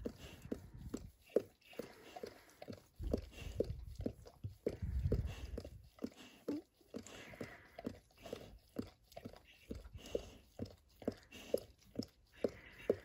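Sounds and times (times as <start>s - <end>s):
soft rhythmic mouth sounds: 0.0s - 13.0s.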